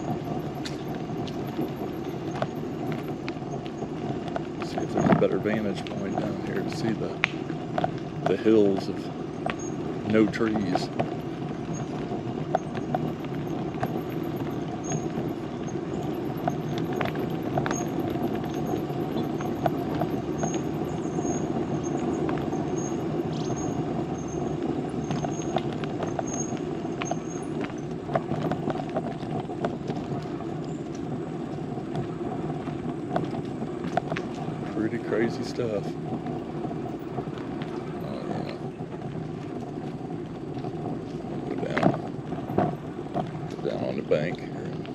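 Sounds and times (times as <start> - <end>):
bicycle clicks and rattles: 0.0 - 44.9
bicycle tyre and wind noise: 0.0 - 44.9.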